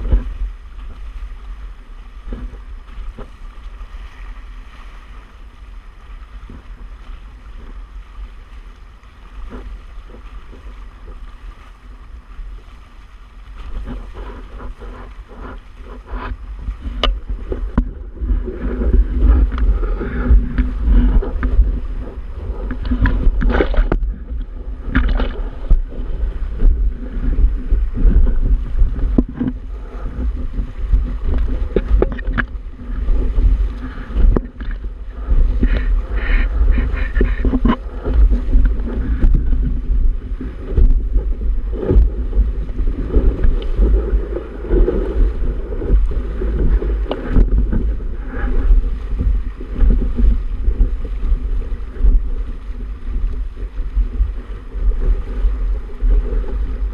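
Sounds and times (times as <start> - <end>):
water splashing against hull: 0.0 - 56.9
waves slapping hull: 0.0 - 56.9
wind buffeting microphone: 0.0 - 56.9.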